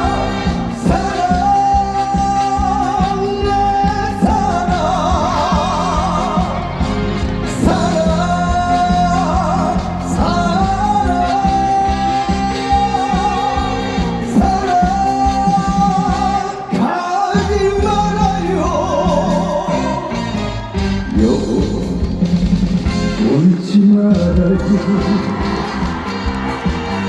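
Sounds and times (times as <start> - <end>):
person singing: 0.0 - 22.4, 23.1 - 27.0
trot music from a live band: 0.0 - 27.0.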